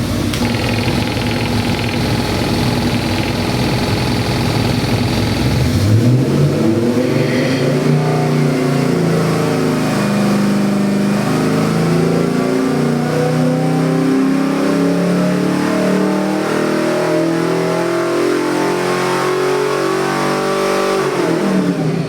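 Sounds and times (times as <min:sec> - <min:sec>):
engine revving on dyno: 0:00.0 - 0:22.0.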